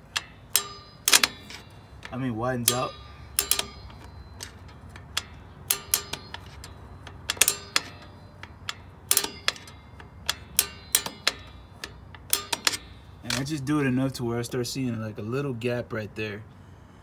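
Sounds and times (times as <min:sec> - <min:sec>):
metallic clicks of brake adjuster: 0:00.0 - 0:14.2.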